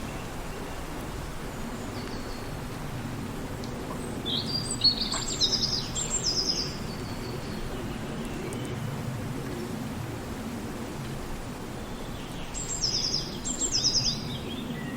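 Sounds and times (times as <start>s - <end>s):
wind through forest: 0.0s - 14.9s.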